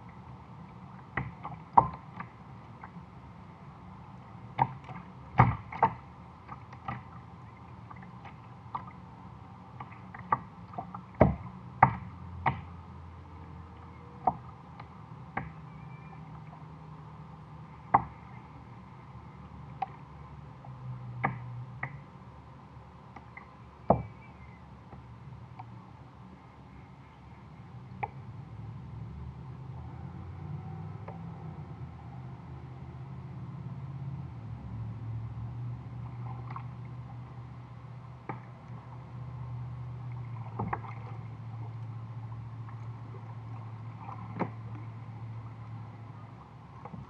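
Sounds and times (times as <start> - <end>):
faint low hum: 0.0 - 47.0.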